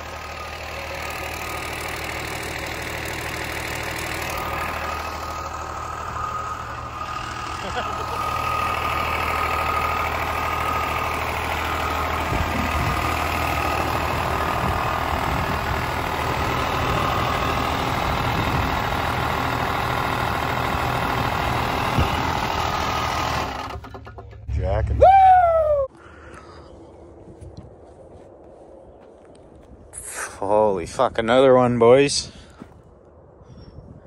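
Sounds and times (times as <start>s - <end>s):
vehicle engine idling: 0.0s - 30.4s.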